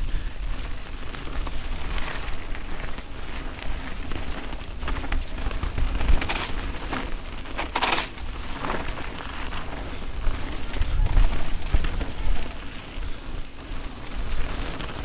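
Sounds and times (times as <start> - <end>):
bike knocking and rattling: 0.0 - 15.0
wind buffeting microphone: 0.0 - 15.0
tyres crunching over dirt and leaves: 0.5 - 15.0
scraping crunch: 0.7 - 15.0.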